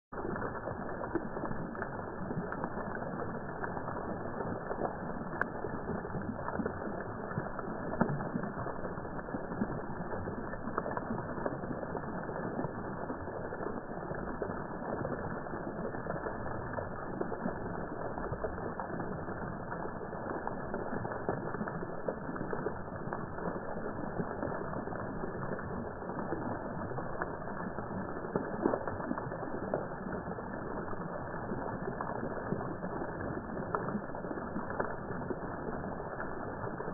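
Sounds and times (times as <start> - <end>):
fountain water splashing: 0.1 - 36.9.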